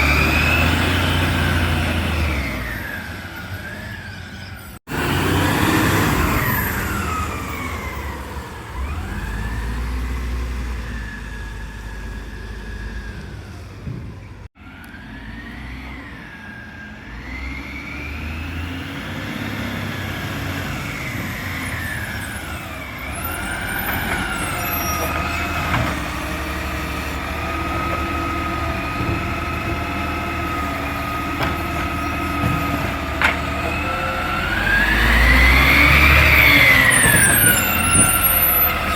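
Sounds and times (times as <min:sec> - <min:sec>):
garbage truck engine whining: 0:00.0 - 0:38.9.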